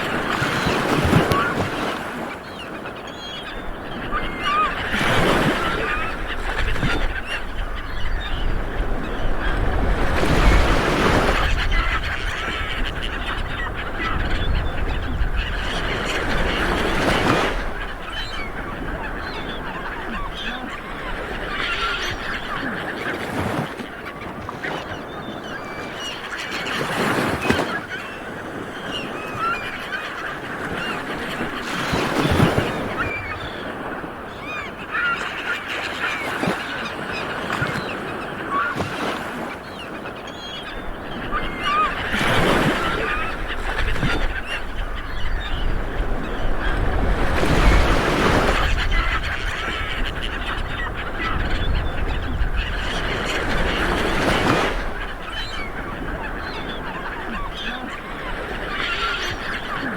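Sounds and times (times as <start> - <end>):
birds honking: 0.0 - 59.9
waves washing up a beach: 0.0 - 59.9.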